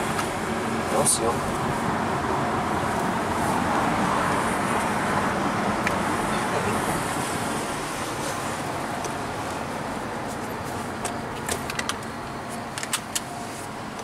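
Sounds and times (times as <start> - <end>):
car interior road noise: 0.0 - 14.0.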